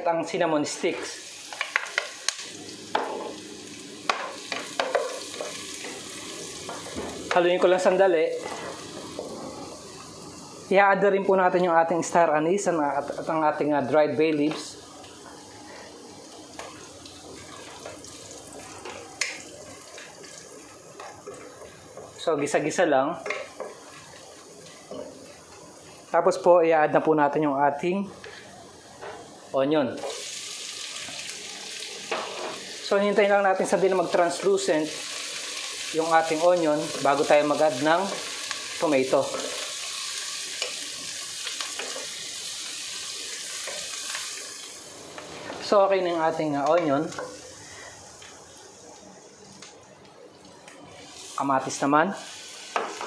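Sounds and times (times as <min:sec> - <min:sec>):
spices sizzling in oil: 0:00.1 - 0:26.5, 0:27.7 - 0:50.0, 0:51.0 - 0:53.0.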